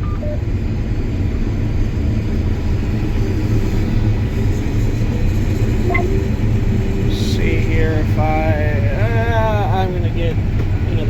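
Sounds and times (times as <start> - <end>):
combine harvester rumbling: 0.0 - 11.0.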